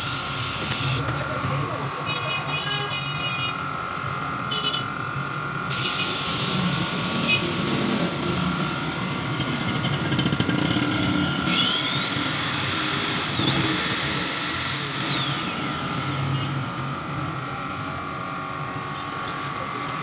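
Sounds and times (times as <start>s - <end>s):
angle grinder motor whining: 0.0s - 20.0s
steady background noise: 0.0s - 20.0s.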